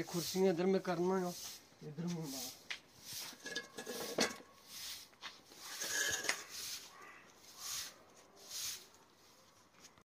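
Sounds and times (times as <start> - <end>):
twig broom sweeping paving: 0.0 - 10.0.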